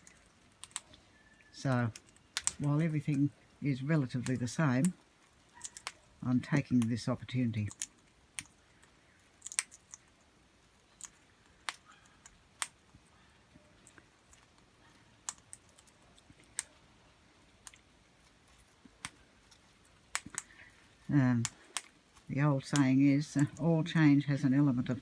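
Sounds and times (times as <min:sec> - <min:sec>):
parrots cracking seeds: 0:00.0 - 0:16.8, 0:17.4 - 0:23.7.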